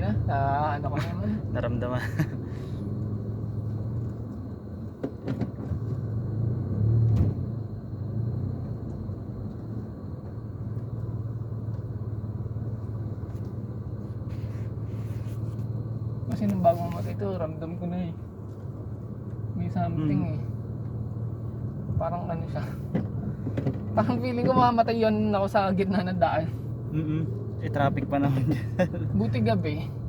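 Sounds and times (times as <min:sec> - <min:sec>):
car engine humming: 0:00.0 - 0:30.0.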